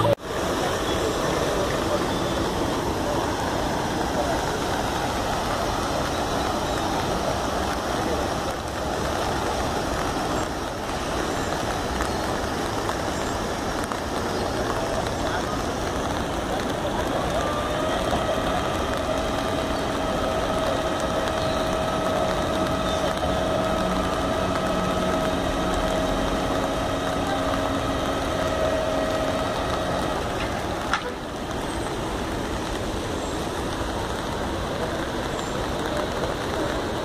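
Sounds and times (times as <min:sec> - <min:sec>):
steady whine-like tone: 0:00.0 - 0:36.8
heavy rain: 0:00.0 - 0:37.0
traffic on flooded street: 0:00.0 - 0:37.0
vehicle engines running: 0:00.0 - 0:37.0.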